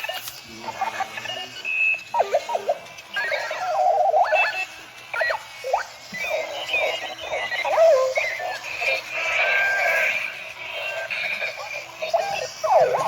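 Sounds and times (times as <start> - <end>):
electronic alarm clock chirping: 0.8 - 13.0.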